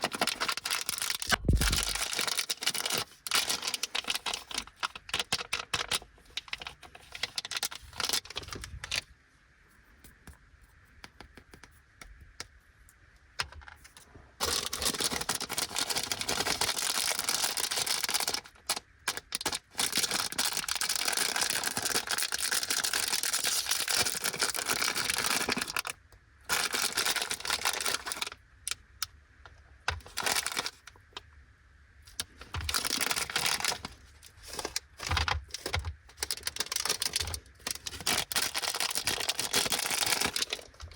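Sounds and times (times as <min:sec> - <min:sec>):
plastic wrappers crinkling: 0:00.0 - 0:09.1, 0:13.4 - 0:28.4, 0:29.9 - 0:31.1, 0:32.1 - 0:40.9.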